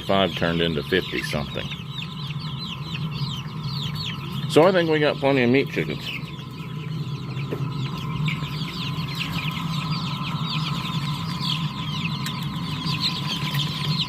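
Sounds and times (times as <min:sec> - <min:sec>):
chicks peeping: 0:00.0 - 0:14.0
steady low hum: 0:00.0 - 0:14.0.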